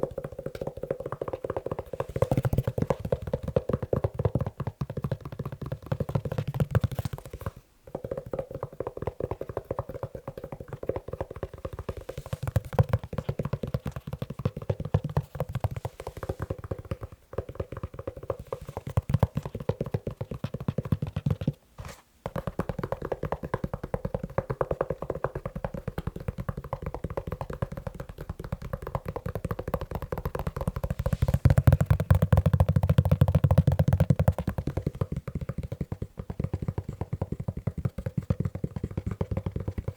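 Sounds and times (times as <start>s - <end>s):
fast tapping on leather shoe: 0.0s - 21.6s, 22.2s - 39.9s.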